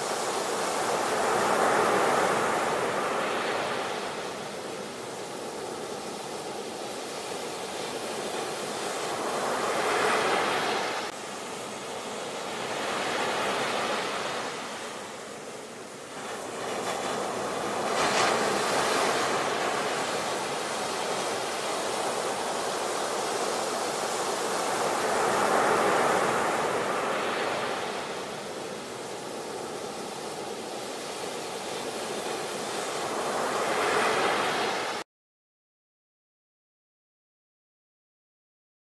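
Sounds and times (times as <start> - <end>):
waves breaking on a sandy beach: 0.0 - 35.0.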